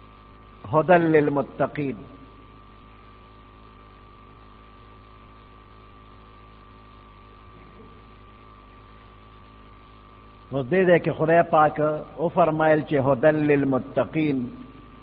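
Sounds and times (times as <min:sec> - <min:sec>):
electrical hum and hiss: 0:00.0 - 0:15.0.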